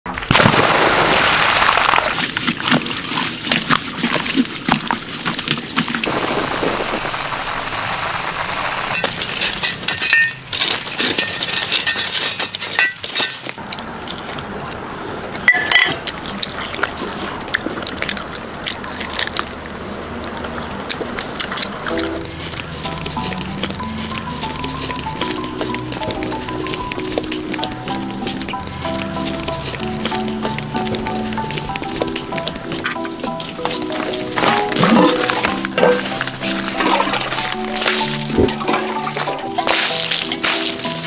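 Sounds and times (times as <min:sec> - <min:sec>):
water pouring and splashing: 0:00.1 - 0:14.4, 0:15.7 - 0:41.0
clicks and crackles from embers: 0:02.0 - 0:38.4.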